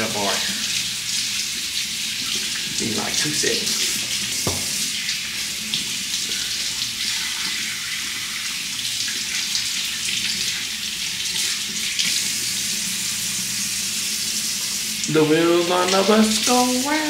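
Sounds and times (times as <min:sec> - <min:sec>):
water running from a tap: 0:00.0 - 0:17.0.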